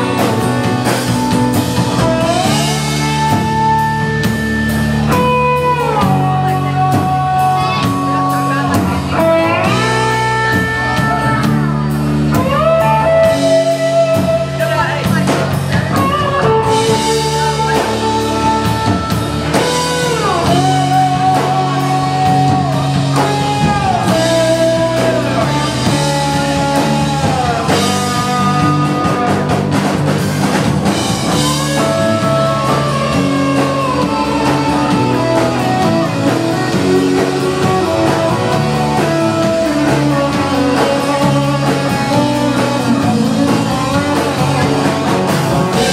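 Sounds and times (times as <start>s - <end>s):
gliding lead guitar line: 0.0s - 45.9s
live rock band playing: 0.0s - 45.9s.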